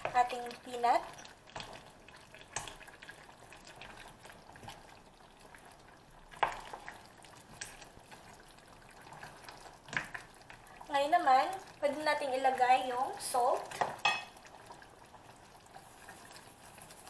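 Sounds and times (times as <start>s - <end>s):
spoon stirring stew in a pan: 0.0s - 11.8s, 13.2s - 17.0s
faint sauce sizzle: 0.0s - 17.0s.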